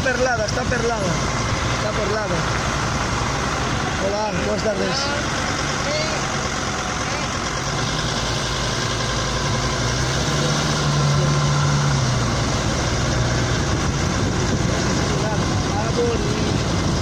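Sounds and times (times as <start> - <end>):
engines running low hum: 0.0 - 17.0.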